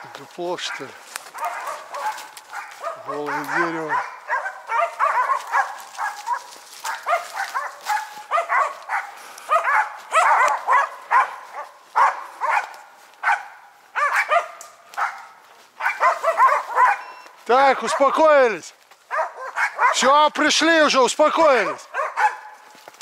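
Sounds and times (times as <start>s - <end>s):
dogs barking: 0.0s - 22.8s.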